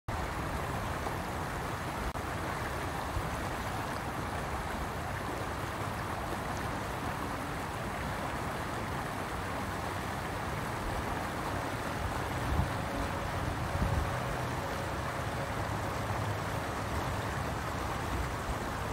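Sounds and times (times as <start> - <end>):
river water rushing over rocks: 0.1 - 18.9.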